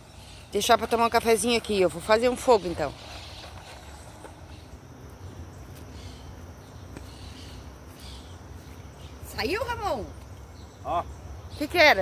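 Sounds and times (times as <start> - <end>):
insects high-pitched drone: 0.0 - 12.0
faint bird calls: 2.2 - 12.0.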